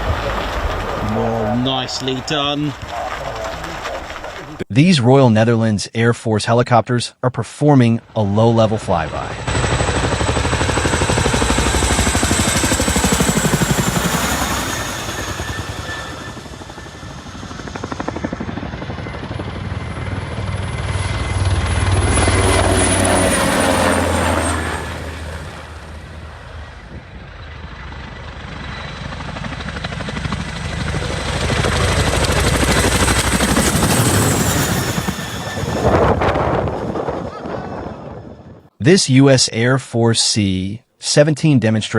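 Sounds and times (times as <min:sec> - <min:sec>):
helicopter rotor beat: 0:00.0 - 0:04.7, 0:08.0 - 0:38.8
high turbine whine: 0:00.0 - 0:04.7, 0:08.0 - 0:38.7.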